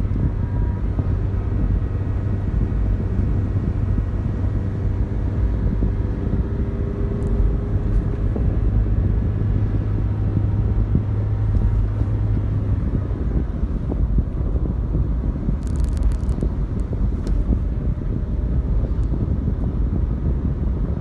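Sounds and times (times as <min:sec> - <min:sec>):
dense low rumble: 0:00.0 - 0:21.0
vehicle engine running: 0:00.0 - 0:21.0.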